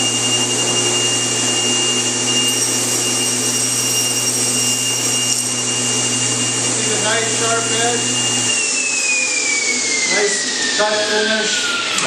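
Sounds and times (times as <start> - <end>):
table saw running: 0.0 - 12.0.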